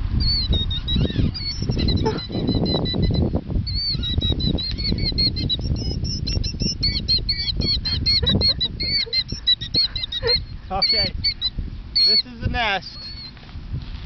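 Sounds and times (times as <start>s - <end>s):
killdeer shrill alarm calls: 0.2s - 13.4s.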